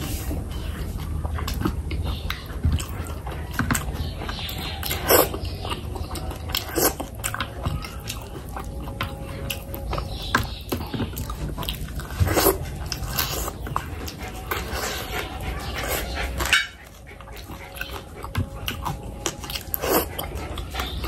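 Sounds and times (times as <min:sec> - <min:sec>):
wet chewing and lip-smacking: 0:00.0 - 0:21.0.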